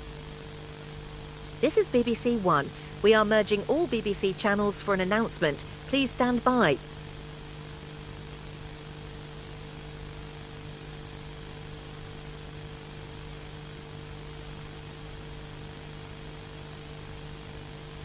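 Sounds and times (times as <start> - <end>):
low electrical hum: 0.0 - 18.0
static hiss: 0.0 - 18.0.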